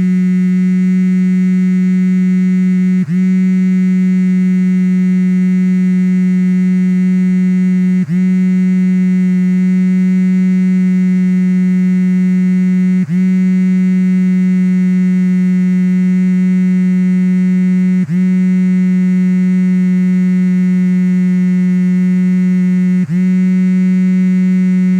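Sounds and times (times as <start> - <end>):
phone vibration motor buzzing: 0.0 - 24.9.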